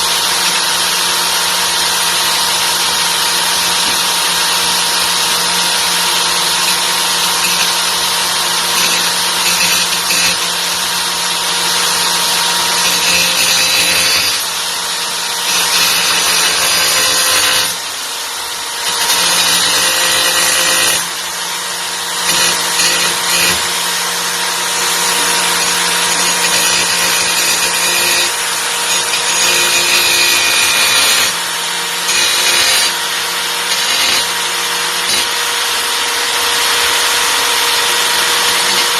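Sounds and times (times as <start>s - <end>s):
angle grinder motor whine: 0.0s - 38.9s.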